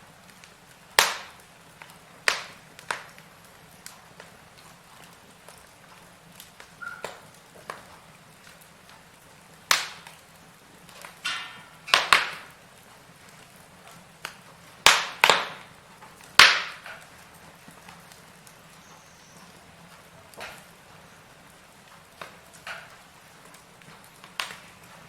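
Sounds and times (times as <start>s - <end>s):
firewood popping and crackling: 0.0s - 25.0s.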